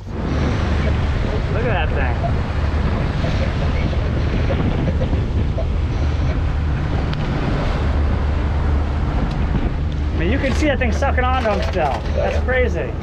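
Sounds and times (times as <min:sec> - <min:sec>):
low engine rumble: 0:00.0 - 0:13.0
water rushing past hull: 0:00.0 - 0:13.0
wind buffeting microphone: 0:00.0 - 0:13.0.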